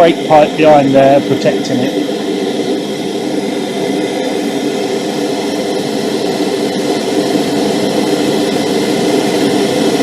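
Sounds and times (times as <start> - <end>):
gas torch flame rushing: 0.0 - 10.0.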